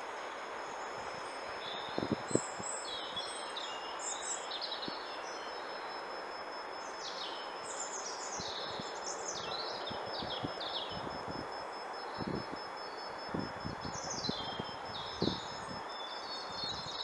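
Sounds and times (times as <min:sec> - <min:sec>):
background hiss: 0:00.0 - 0:17.0
songbirds singing and chirping: 0:00.5 - 0:06.1, 0:06.7 - 0:17.0.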